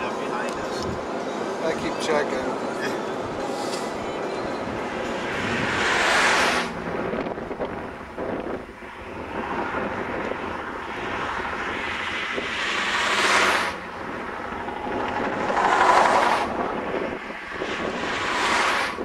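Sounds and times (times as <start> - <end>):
vehicles whooshing past: 0.0 - 19.0
wind noise on microphone: 0.5 - 1.2, 3.2 - 19.0.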